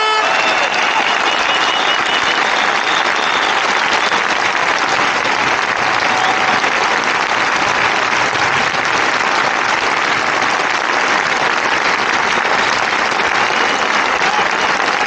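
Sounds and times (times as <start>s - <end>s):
huge crowd applauding: 0.0s - 15.0s.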